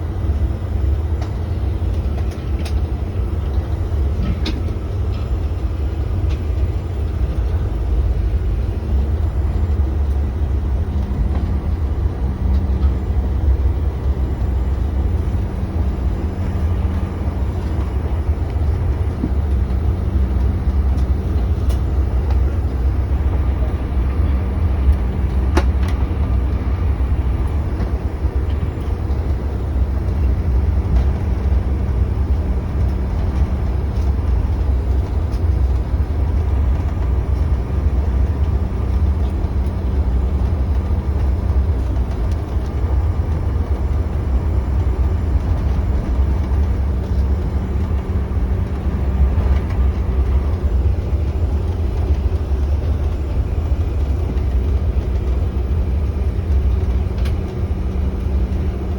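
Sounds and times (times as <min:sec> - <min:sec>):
jet cabin engine rumble: 0:00.0 - 0:58.9.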